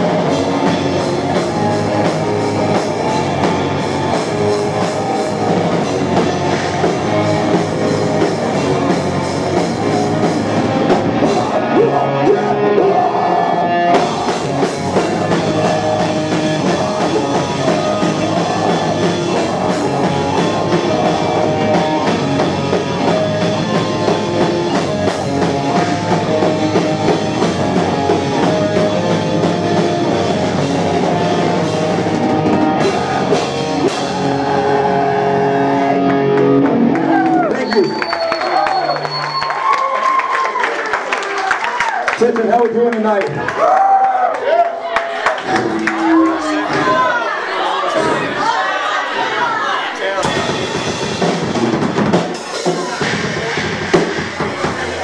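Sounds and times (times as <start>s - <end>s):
distorted guitars: 0.0s - 39.7s, 45.4s - 49.0s, 49.7s - 55.0s
heavy rock band playing: 0.0s - 40.4s, 45.3s - 55.0s
drums: 0.0s - 55.0s.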